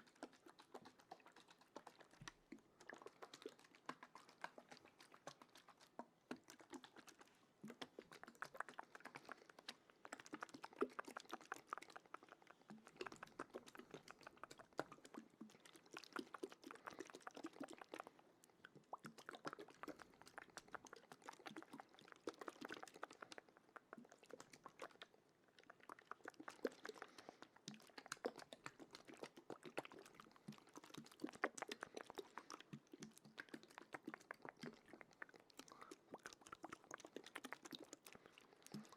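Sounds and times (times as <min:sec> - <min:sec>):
soft wet clicks and crackles: 0:00.0 - 0:38.9.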